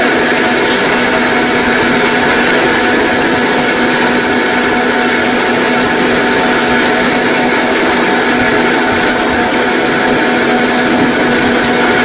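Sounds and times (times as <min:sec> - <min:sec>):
flour mill machine whirring: 0:00.0 - 0:12.0.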